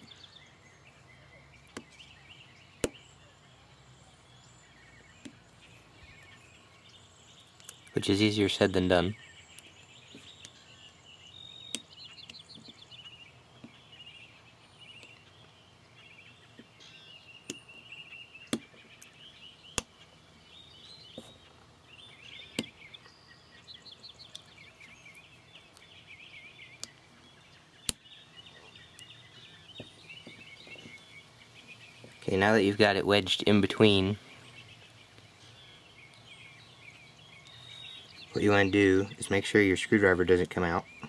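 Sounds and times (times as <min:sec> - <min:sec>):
faint birdsong: 0:00.0 - 0:41.0.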